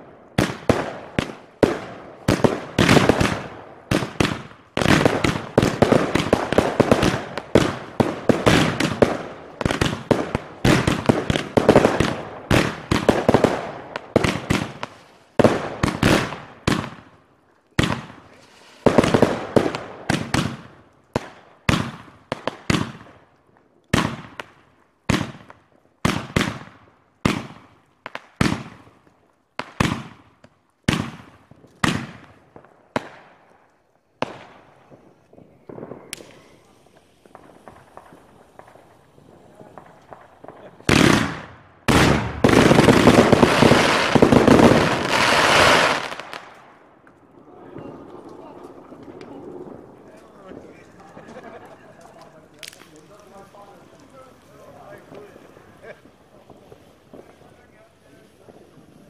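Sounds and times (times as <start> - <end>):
fireworks and firecrackers bangs: 0.0 - 59.0.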